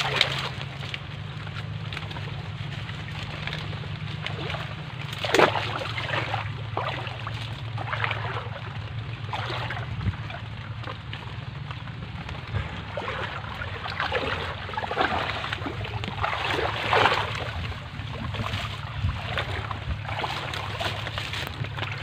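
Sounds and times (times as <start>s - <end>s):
steady low hum: 0.0s - 22.0s
water sloshing and splashing: 0.0s - 22.0s.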